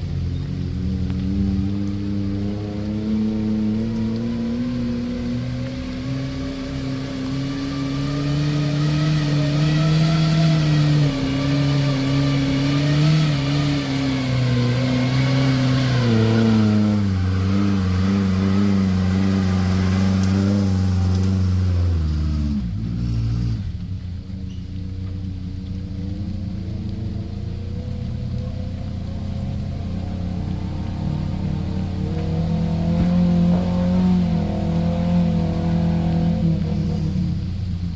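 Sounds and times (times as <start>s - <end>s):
off-road vehicle engine revving: 0.0s - 37.9s.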